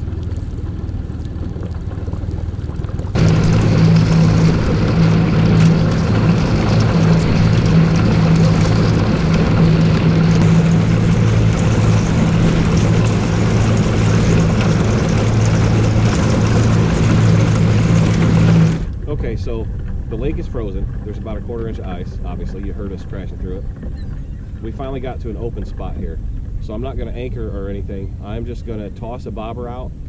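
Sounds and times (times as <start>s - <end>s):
hull crunching through ice: 0.0s - 28.9s
outboard motor running: 0.0s - 30.0s.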